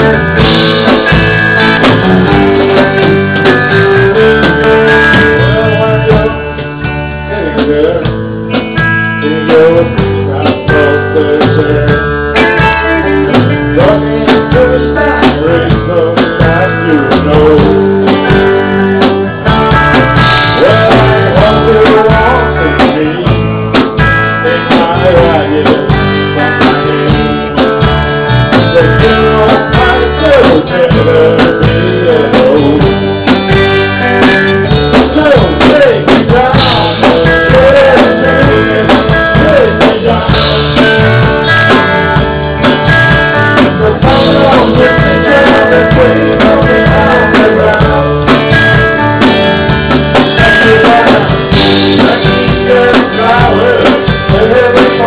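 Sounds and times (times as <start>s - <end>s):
drum beat: 0.0s - 7.0s, 7.6s - 55.0s
live country rock band: 0.0s - 55.0s
pitch-bending guitar lead: 0.0s - 55.0s.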